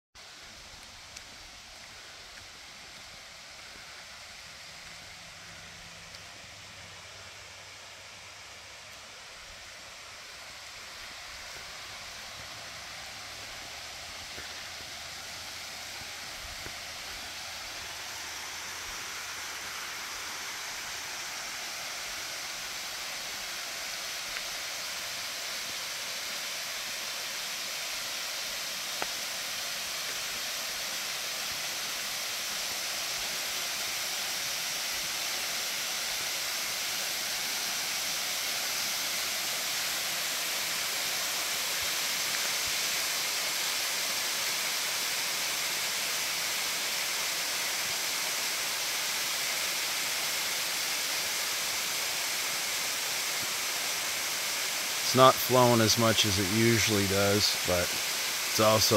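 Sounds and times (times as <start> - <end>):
waterfall rushing: 0.2 - 58.9.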